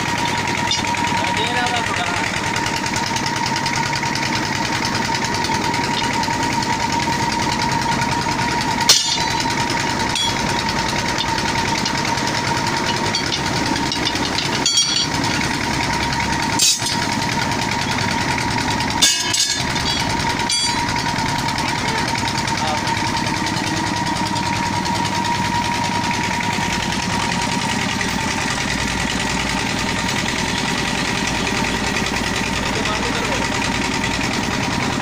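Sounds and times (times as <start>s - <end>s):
motor running with high whine: 0.0s - 35.0s.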